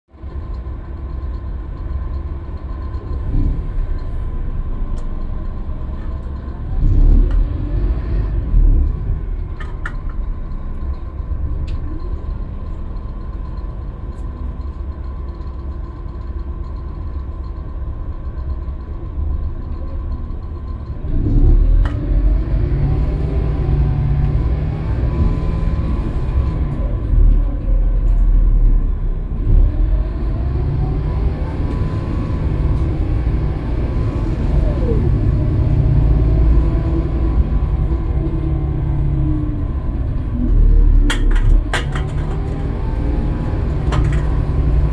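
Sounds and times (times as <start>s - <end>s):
bus engine rumble: 0.1s - 44.9s.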